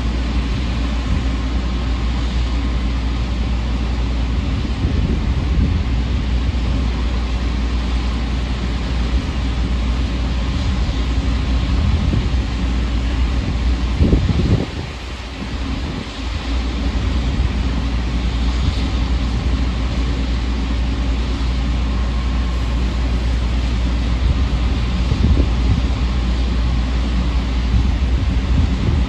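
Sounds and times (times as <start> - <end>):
ship engine rumble: 0.0 - 29.0
wind buffeting microphone: 0.0 - 29.0.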